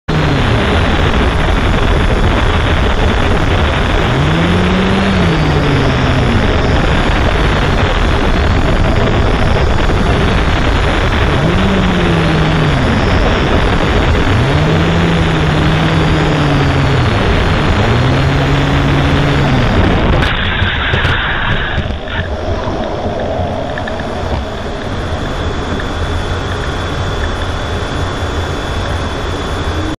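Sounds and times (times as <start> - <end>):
aircraft engine rushing: 0.1 - 30.0.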